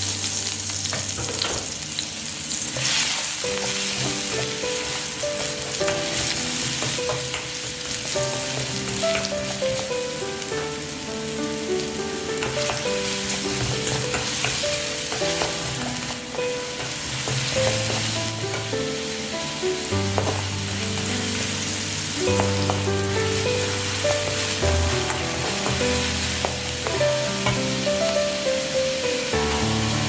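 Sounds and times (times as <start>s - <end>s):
background music: 0.0s - 30.0s
food sizzling in a pan: 0.0s - 30.0s.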